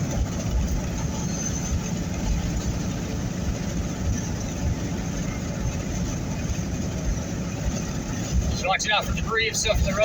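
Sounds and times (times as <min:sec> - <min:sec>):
road and engine noise: 0:00.0 - 0:10.0
wind buffeting vehicle: 0:00.0 - 0:10.0.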